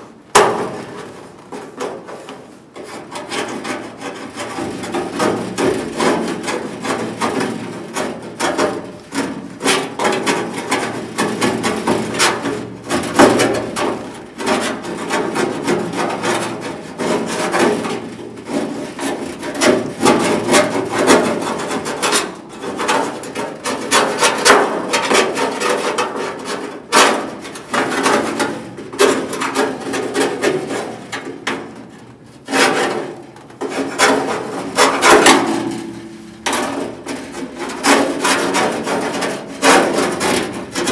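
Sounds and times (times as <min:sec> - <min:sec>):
hand tool scraping sheet metal: 0:00.4 - 0:40.9.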